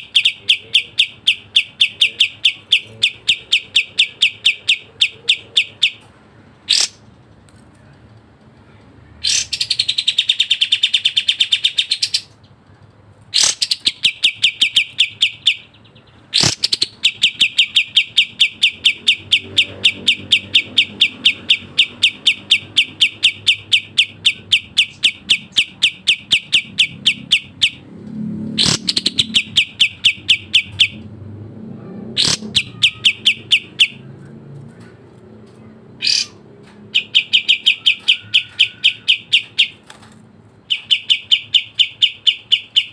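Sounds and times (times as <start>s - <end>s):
songbird singing sharp repeated notes: 0.0s - 7.1s, 9.2s - 12.5s, 13.4s - 31.1s, 32.2s - 34.8s, 35.5s - 40.0s, 40.6s - 42.9s.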